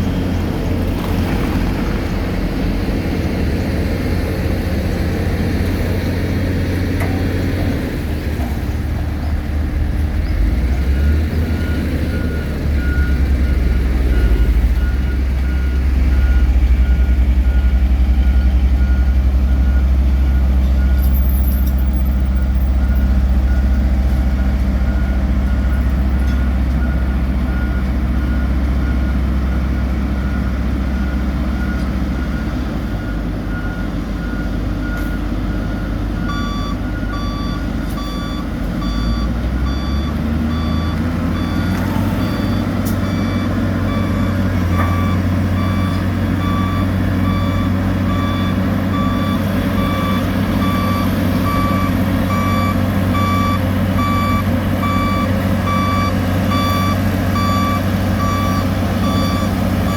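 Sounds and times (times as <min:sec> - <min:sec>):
diesel engines running: 0:00.0 - 0:59.9
reversing alarms beeping: 0:10.2 - 0:59.9.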